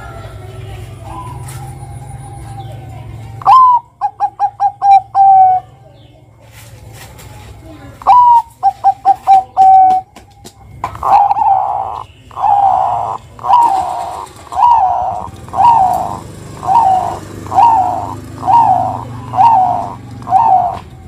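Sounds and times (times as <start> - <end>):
dove cooing: 0.8 - 5.8, 8.0 - 10.1, 10.8 - 21.0.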